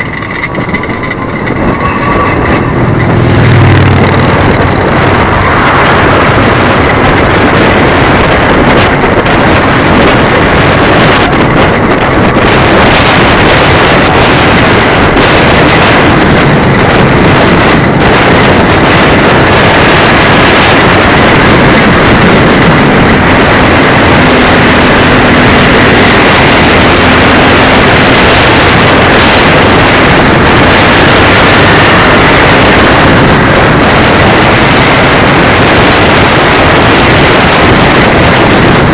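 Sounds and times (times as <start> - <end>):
engine drone: 0.0 - 38.9
wind noise on microphone: 0.0 - 38.9.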